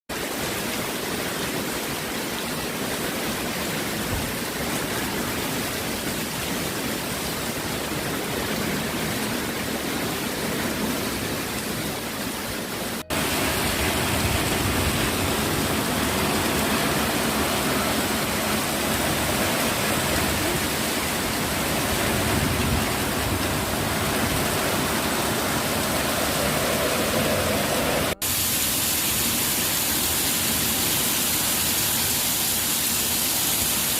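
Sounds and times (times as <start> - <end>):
water rushing: 0.1 - 33.9.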